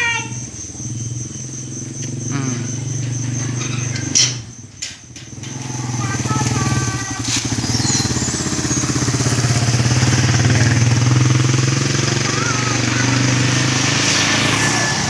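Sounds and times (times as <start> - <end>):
high insect trill: 0.0 - 15.0
vehicle engine humming: 0.0 - 15.0.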